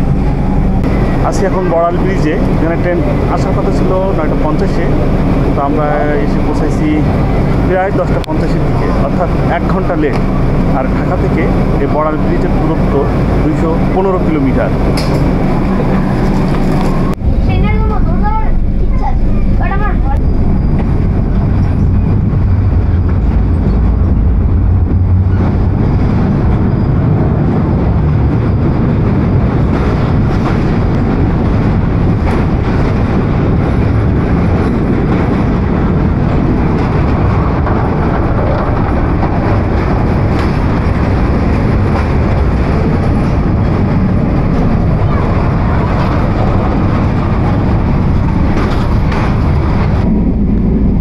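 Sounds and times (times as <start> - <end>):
train wheels on rails: 0.0 - 18.4, 19.5 - 51.0.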